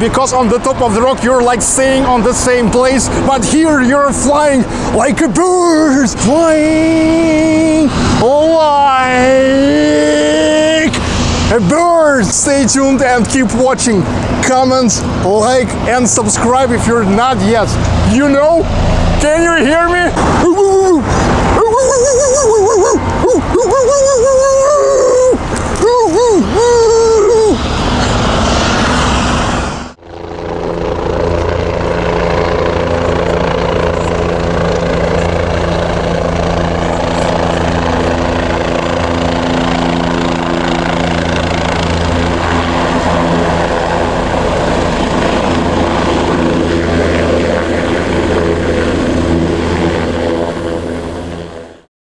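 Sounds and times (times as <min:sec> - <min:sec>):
helicopter running: 0:00.0 - 0:51.9.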